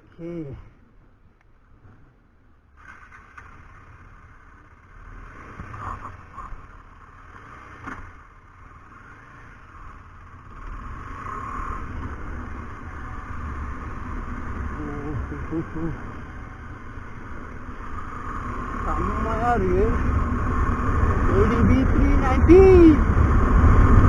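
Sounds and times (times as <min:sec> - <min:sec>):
wind and road noise: 0:00.0 - 0:24.0
motorcycle engine running: 0:02.6 - 0:24.0.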